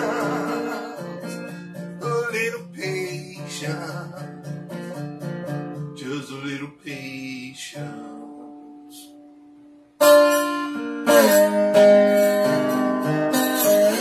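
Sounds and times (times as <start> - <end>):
slide guitar fingerpicking: 0.0 - 14.0.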